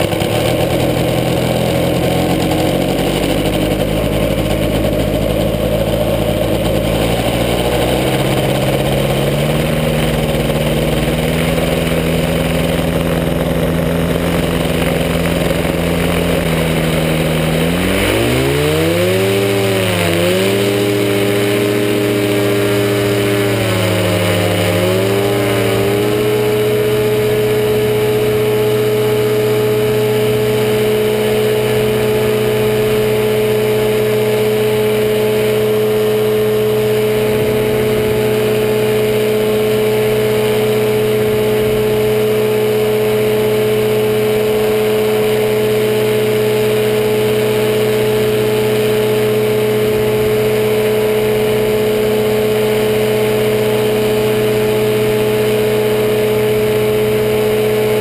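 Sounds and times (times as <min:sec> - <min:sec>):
engine and propeller running: 0:00.0 - 0:58.0.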